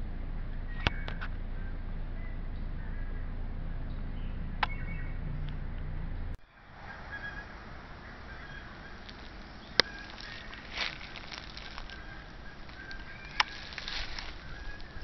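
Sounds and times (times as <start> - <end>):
low steady hum: 0.0 - 15.0
faint bird chirps: 0.5 - 5.6, 6.2 - 15.0.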